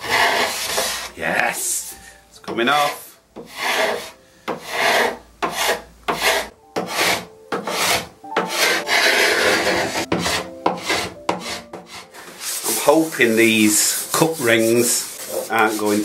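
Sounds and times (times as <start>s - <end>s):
paint scraper rasping on wood: 0.0s - 1.2s, 2.8s - 16.0s.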